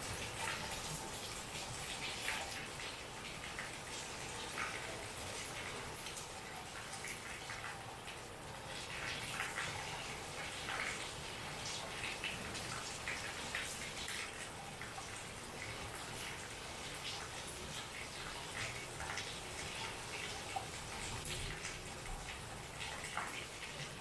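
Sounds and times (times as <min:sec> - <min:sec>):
rain falling steadily: 0:00.0 - 0:24.0.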